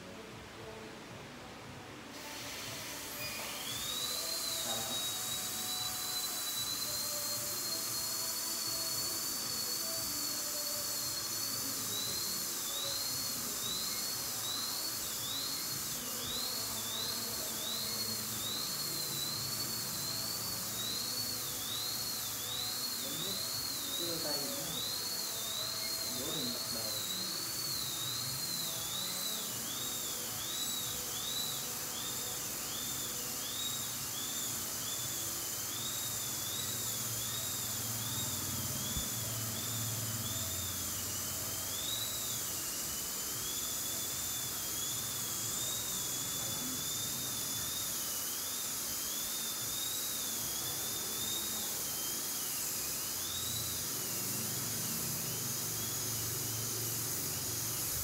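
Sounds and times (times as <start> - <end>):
steady hiss: 0.0 - 58.0
dental drill whining: 2.1 - 58.0.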